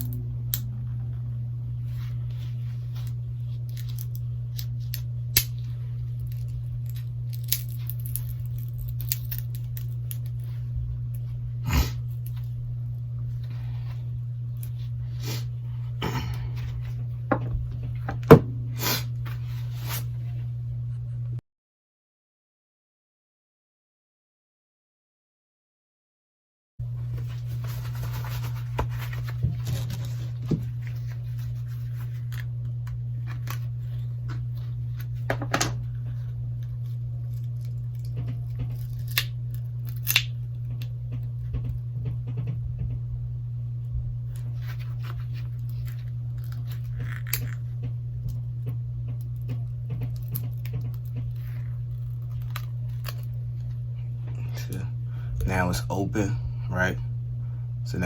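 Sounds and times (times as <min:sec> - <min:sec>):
steady low hum: 0:00.0 - 0:21.4, 0:26.8 - 0:58.0.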